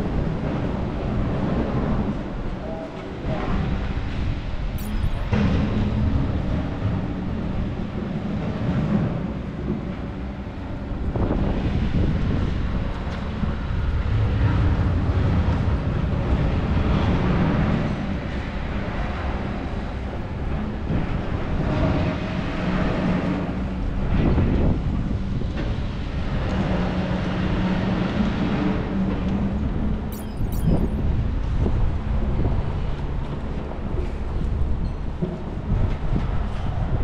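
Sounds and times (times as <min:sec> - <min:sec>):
rail and street noise: 0:00.0 - 0:37.0.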